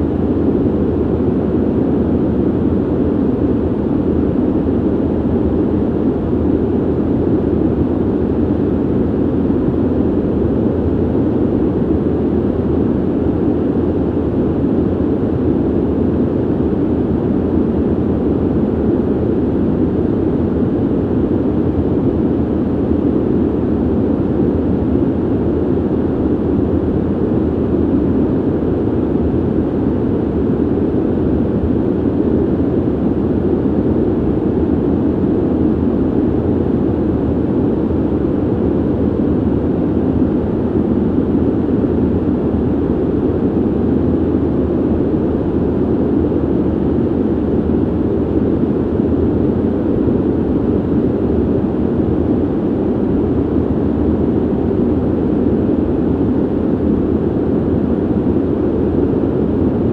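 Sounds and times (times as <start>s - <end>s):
ventilation air whoosh: 0.0s - 59.9s.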